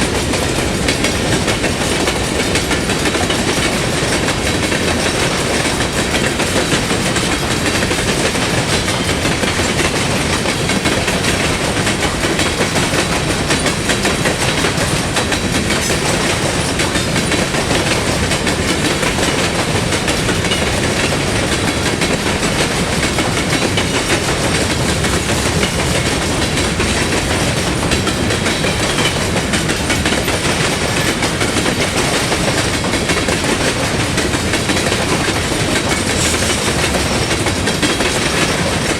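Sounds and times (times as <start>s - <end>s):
train rumbling: 0.0s - 38.9s
wheels clacking over rail joints: 0.0s - 38.9s.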